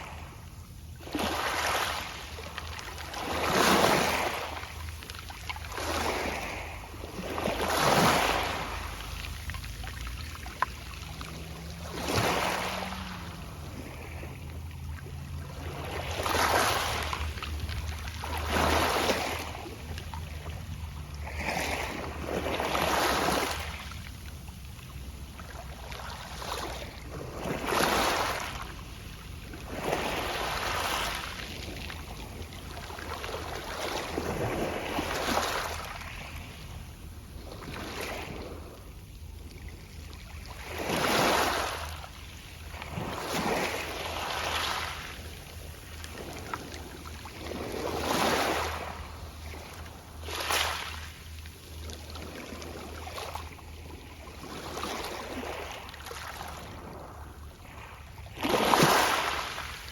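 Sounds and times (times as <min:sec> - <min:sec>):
waves on a pebble beach: 0:00.0 - 0:59.9.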